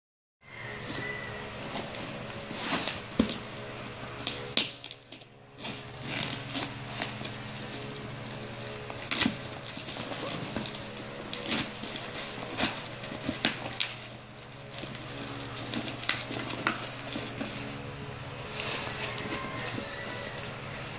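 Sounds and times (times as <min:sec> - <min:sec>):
plastic wrap crackling: 0:01.0 - 0:20.9.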